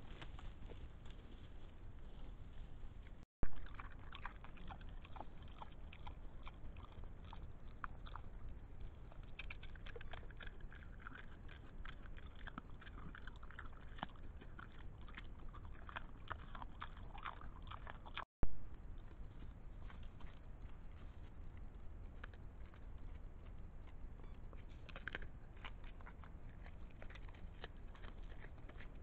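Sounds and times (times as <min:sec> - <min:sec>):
boar chewing with crunching clicks: 0:00.0 - 0:29.0.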